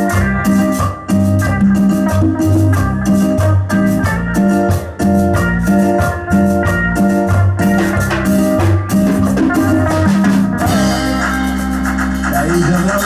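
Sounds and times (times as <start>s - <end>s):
bass guitar: 0.0s - 13.0s
electric guitar lead: 0.0s - 13.0s
percussion beat: 0.0s - 13.0s.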